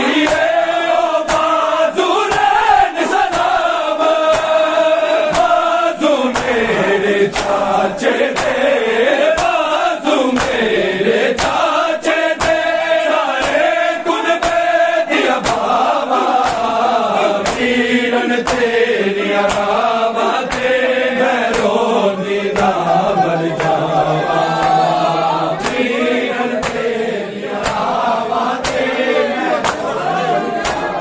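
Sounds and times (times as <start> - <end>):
men chanting together: 0.0 - 31.0
hands slapping chests: 0.1 - 31.0.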